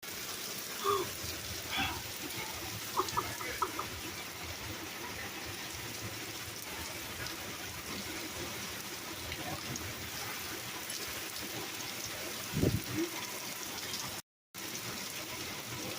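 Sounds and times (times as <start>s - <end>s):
rain falling: 0.0s - 15.9s.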